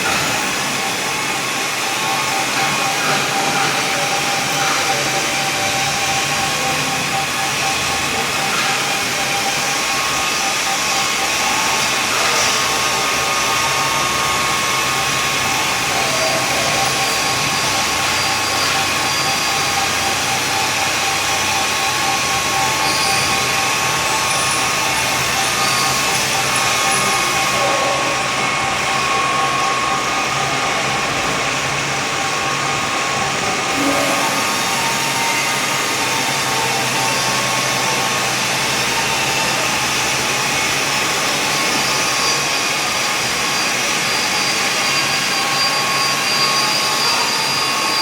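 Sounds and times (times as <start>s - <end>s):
milling machine running: 0.0s - 48.0s.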